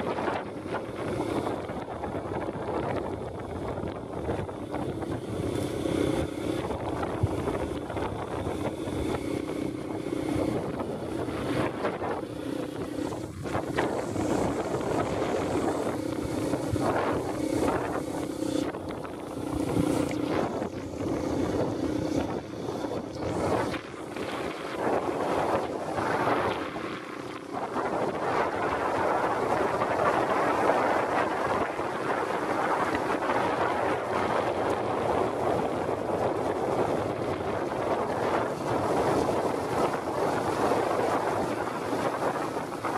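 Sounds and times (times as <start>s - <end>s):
small motorcycle engine running: 0.0s - 42.9s
wind buffeting microphone: 0.0s - 42.9s.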